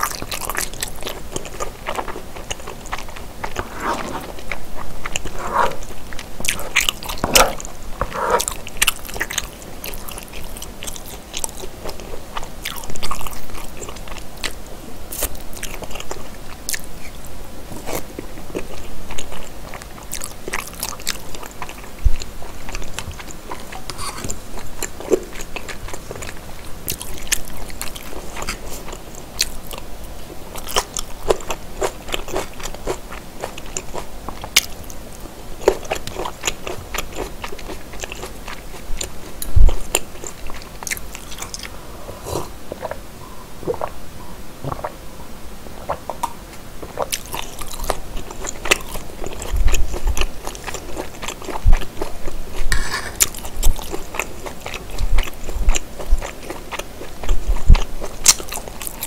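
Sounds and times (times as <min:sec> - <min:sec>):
wet chewing mouth sounds: 0:00.0 - 0:17.2, 0:17.8 - 0:29.9, 0:35.6 - 0:43.0, 0:43.6 - 0:44.0, 0:44.6 - 0:45.0, 0:45.8 - 0:59.0.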